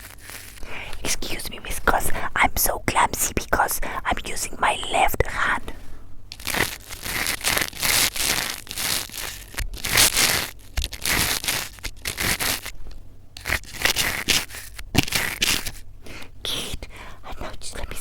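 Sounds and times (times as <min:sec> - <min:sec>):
crinkling and rustling on microphone: 0:00.0 - 0:15.9.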